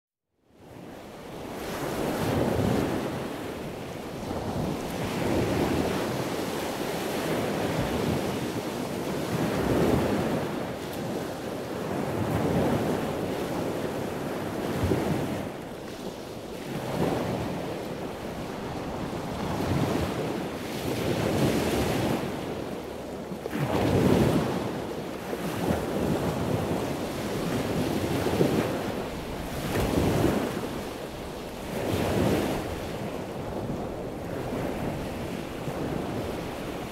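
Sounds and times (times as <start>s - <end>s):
wind buffeting microphone: 0.6s - 36.9s
sea water rushing and splashing: 1.1s - 36.9s.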